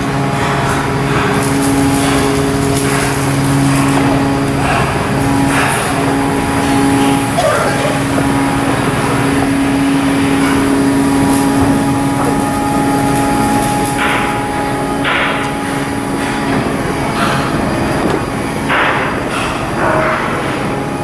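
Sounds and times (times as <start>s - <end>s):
steady machine hum: 0.0s - 21.0s.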